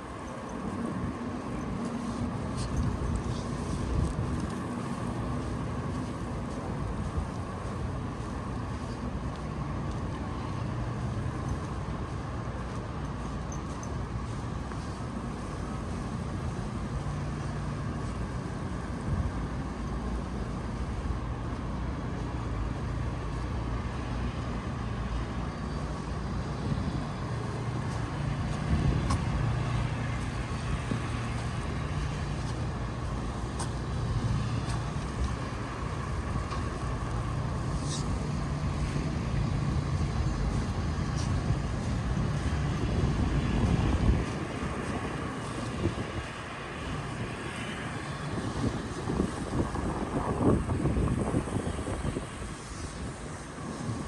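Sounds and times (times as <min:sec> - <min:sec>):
vehicle engine humming: 0:00.0 - 0:54.0.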